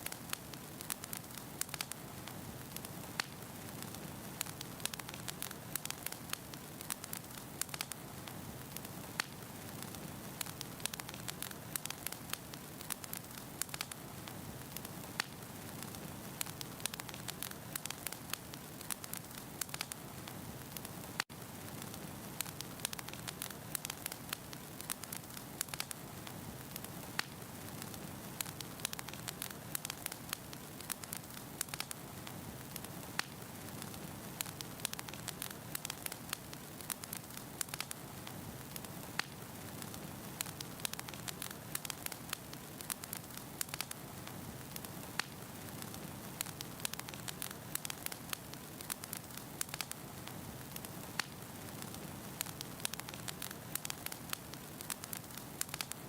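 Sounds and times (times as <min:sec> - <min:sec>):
wood crackling and popping: 0:00.0 - 0:56.0.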